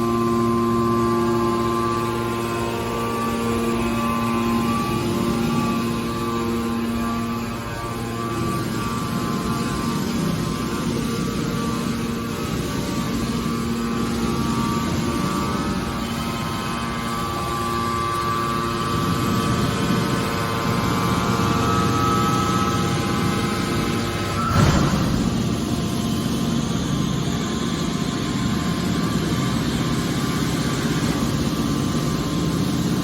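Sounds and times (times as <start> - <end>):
baler machinery hum and whine: 0.0 - 33.0.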